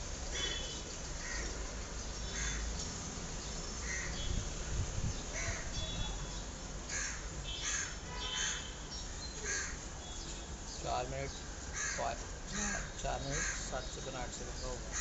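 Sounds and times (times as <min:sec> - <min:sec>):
harsh bird calls: 0:00.3 - 0:04.5, 0:05.1 - 0:15.0.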